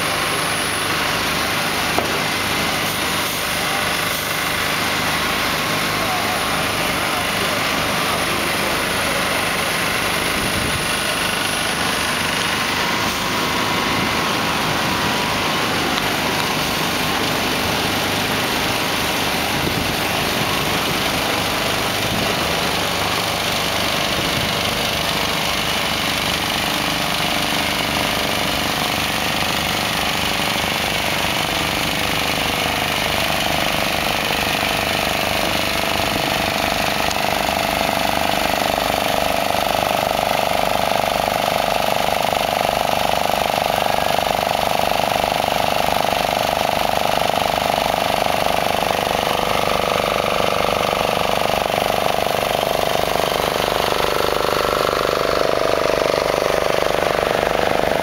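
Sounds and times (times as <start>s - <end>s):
diesel engine running steadily: 0.0s - 58.0s.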